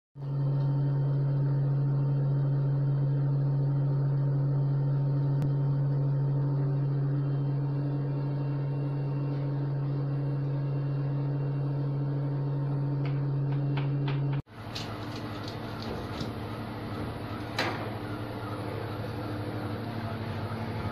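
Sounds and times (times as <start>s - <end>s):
steady low hum: 0.2s - 20.9s.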